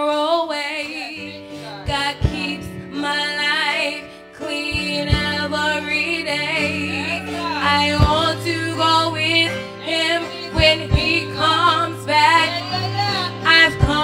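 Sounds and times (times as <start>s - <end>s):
held keyboard chords: 0.0s - 14.0s
women singing into microphones: 0.0s - 14.0s.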